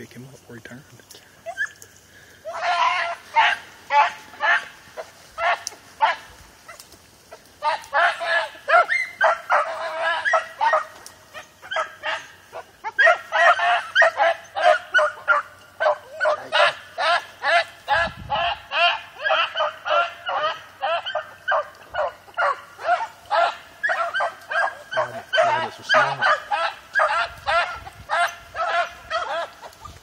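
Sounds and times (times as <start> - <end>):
hounds baying: 1.4 - 30.0.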